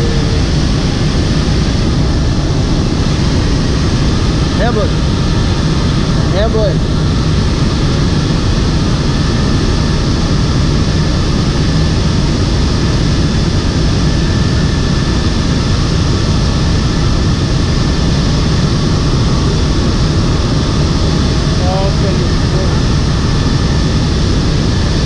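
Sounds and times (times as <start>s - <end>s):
aircraft engine and airflow noise: 0.0s - 25.0s.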